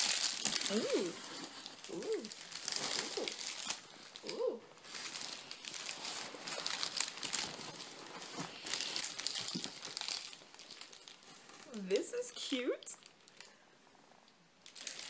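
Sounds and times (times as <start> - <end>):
packing material crinkling: 0.0 - 13.6, 14.6 - 15.0.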